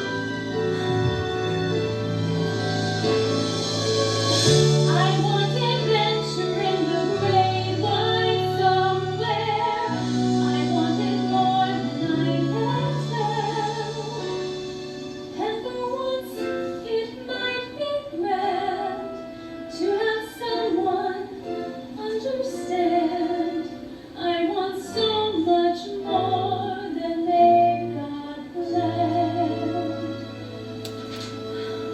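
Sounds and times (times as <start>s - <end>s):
instrumental accompaniment: 0.0s - 24.0s, 25.0s - 31.9s.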